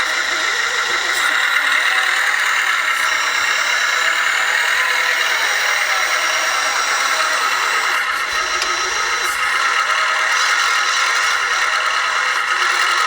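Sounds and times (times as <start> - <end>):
toy machines mechanical hum: 0.0 - 13.0.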